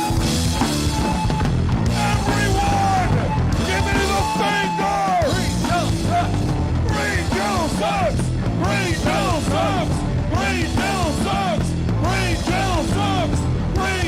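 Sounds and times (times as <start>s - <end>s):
punk rock song: 0.0s - 14.0s.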